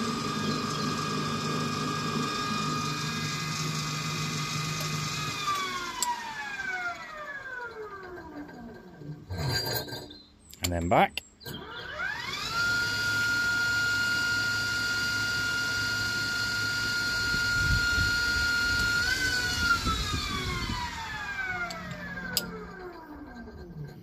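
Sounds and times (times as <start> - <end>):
electric motor whining: 0.0 - 10.2, 11.4 - 24.0.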